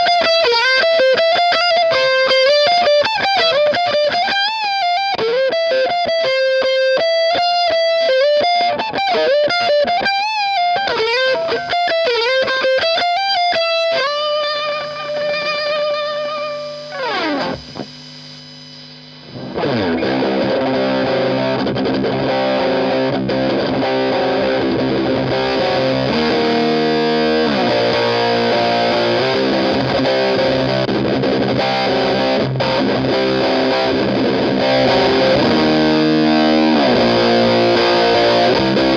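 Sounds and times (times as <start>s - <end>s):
distorted electric guitar lead: 0.0s - 38.9s
distorted guitar chords: 0.0s - 38.9s.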